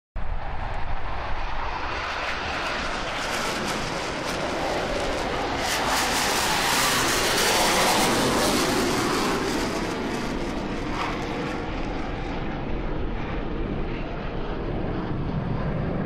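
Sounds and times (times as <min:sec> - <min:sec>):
jet engines roaring: 0:00.2 - 0:16.0.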